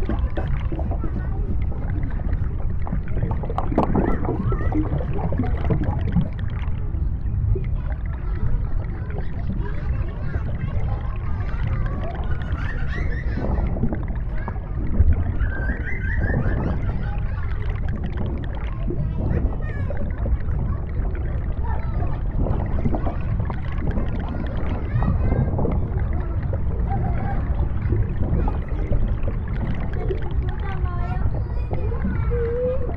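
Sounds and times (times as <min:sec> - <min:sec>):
muffled wavering higher sounds: 0:00.0 - 0:32.9
underwater low rumble: 0:00.0 - 0:32.9.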